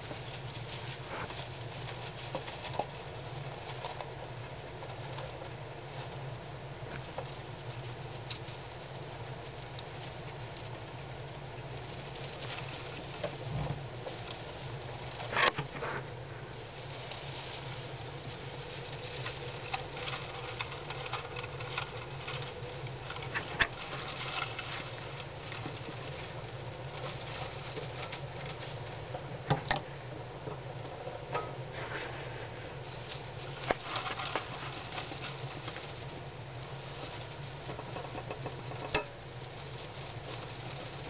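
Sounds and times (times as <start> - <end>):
hamsters rustling in bedding: 0.0 - 41.0
steady low hum: 0.0 - 41.0.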